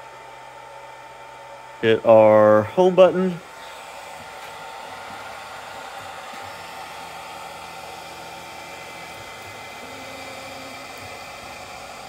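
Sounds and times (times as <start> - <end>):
fan-like whir: 0.0 - 12.0
low motor hums: 1.4 - 12.0.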